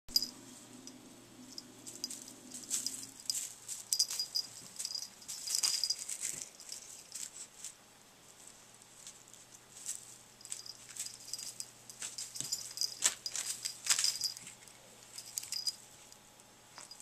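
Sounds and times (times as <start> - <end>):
cat toy rattling and jingling: 0.1 - 7.7, 9.7 - 15.8, 16.8 - 17.0.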